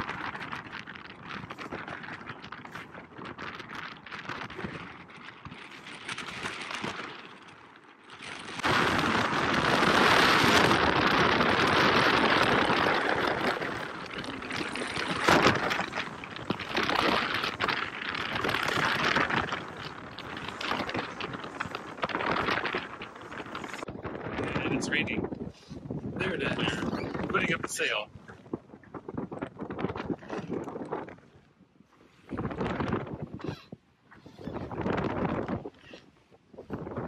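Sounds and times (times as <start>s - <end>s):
rushing water aboard boat: 0.0s - 37.0s
rushing wind: 0.0s - 37.0s.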